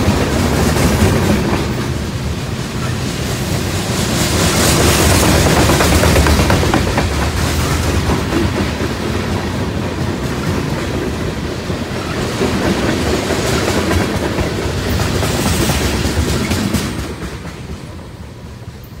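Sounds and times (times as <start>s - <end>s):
steel wheels clattering over rail joints: 0.0s - 18.0s
freight train rolling past: 0.0s - 19.0s.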